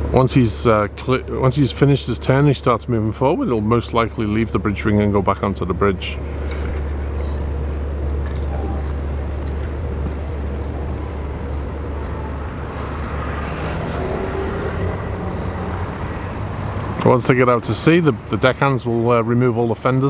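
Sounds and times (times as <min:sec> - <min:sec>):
faint humming tones: 0:00.0 - 0:20.0
motor yacht engines rumbling: 0:00.0 - 0:20.0.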